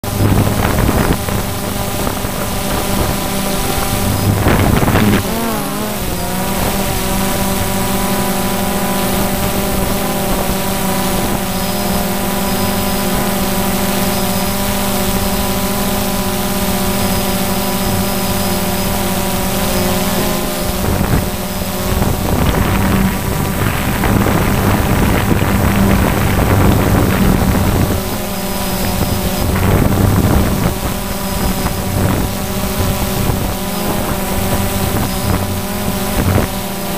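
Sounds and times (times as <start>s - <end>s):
drone motors humming: 0.0s - 36.9s.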